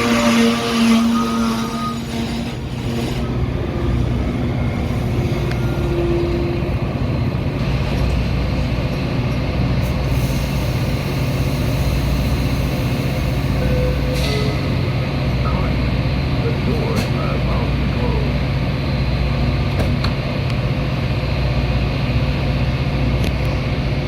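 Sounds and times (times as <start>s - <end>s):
diesel locomotive humming: 0.0s - 24.0s.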